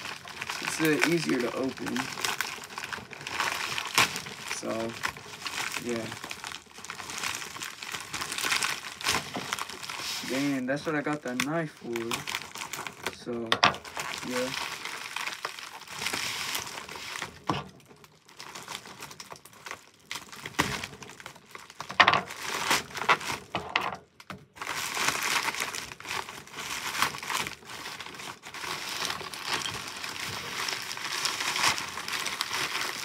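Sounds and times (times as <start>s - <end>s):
plastic mailer crinkling: 0.0s - 33.0s.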